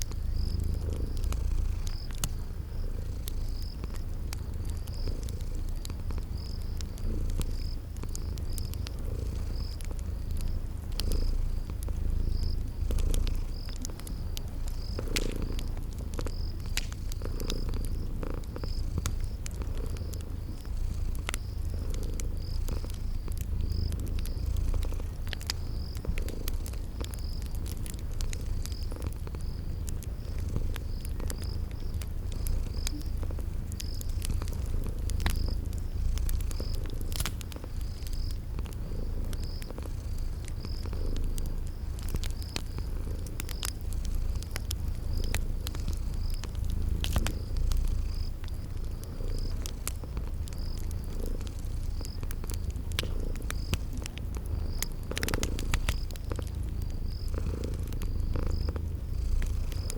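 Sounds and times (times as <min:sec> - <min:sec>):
cat purring: 0:00.0 - 0:59.9
cricket chirping: 0:00.0 - 0:59.9
wood fire crackling: 0:00.0 - 0:59.9.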